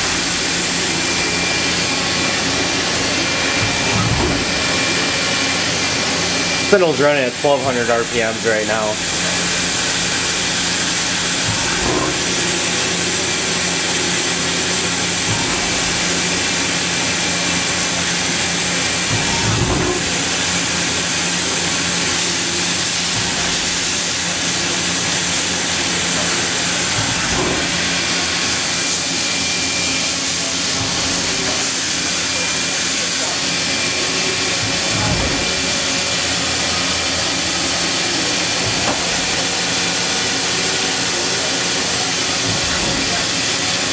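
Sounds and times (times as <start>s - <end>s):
machine spindle humming: 0.0s - 43.9s.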